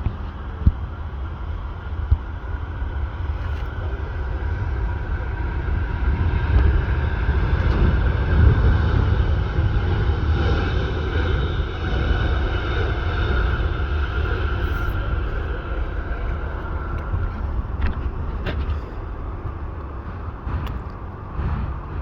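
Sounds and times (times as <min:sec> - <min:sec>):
faint engine whine: 0:00.0 - 0:22.0
jet engines rumbling: 0:00.0 - 0:22.0.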